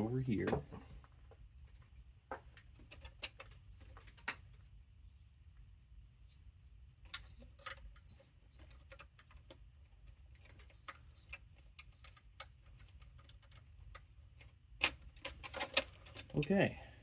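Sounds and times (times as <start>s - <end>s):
low steady hum: 0.0s - 17.0s
small clicks and taps: 0.4s - 4.6s, 7.0s - 16.5s.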